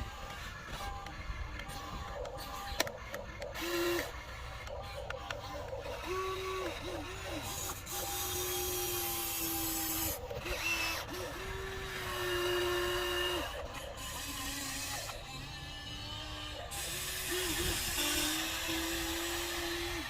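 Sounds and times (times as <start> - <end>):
electric gear motors whining: 0.0 - 20.0.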